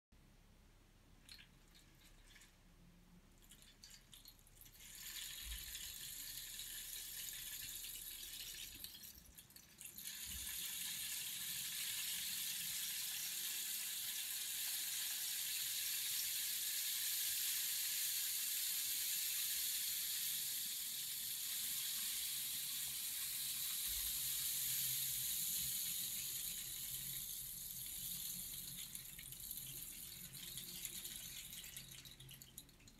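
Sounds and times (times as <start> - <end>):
rainstick trickling: 3.4 - 32.9.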